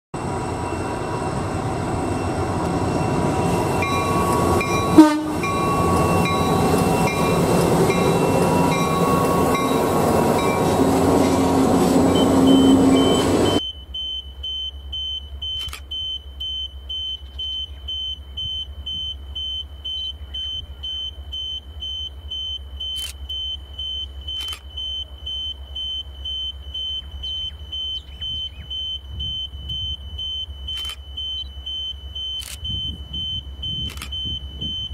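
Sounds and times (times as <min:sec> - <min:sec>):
level crossing warning bell: 0:00.2 - 0:34.9
train noise with steady tones: 0:00.2 - 0:34.9.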